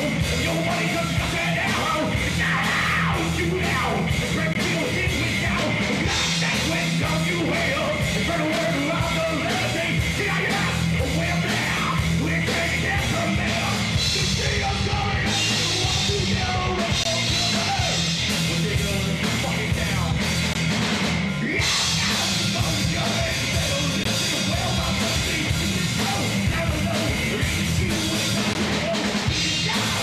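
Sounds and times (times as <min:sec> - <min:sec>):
singer's vocals: 0:00.0 - 0:20.4, 0:21.3 - 0:30.0
live metal band playing: 0:00.0 - 0:30.0.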